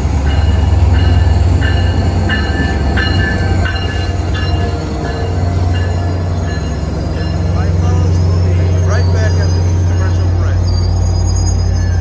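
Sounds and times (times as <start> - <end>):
diesel locomotive engine humming: 0.0 - 12.0
bell ringing: 0.2 - 12.0.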